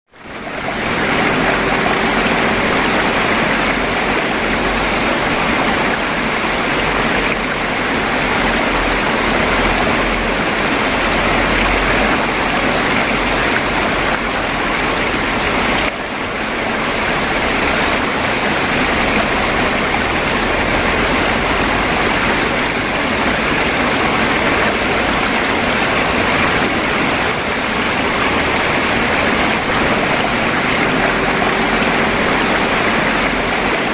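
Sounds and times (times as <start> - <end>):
stream water babbling: 0.1 - 33.9.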